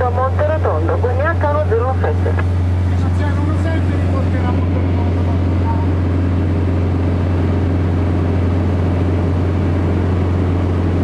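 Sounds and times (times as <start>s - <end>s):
aircraft engine droning in cabin: 0.0s - 11.0s.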